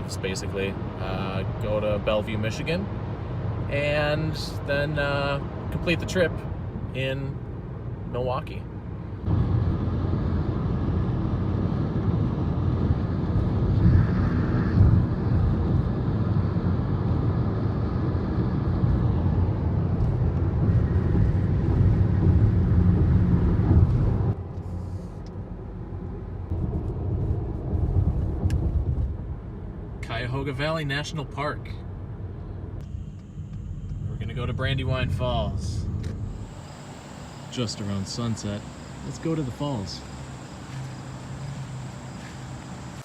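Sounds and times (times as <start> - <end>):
car road and engine rumble: 0.0 - 43.0.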